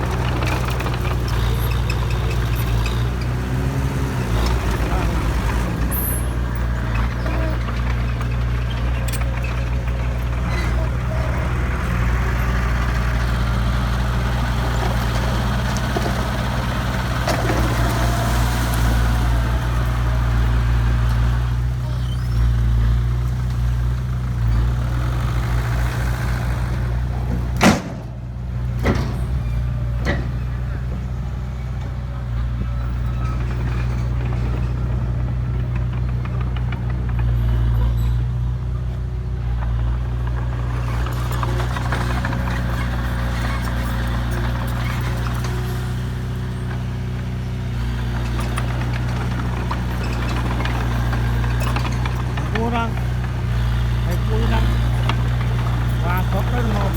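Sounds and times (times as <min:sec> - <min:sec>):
heavy truck engine idling: 0:00.0 - 0:56.9.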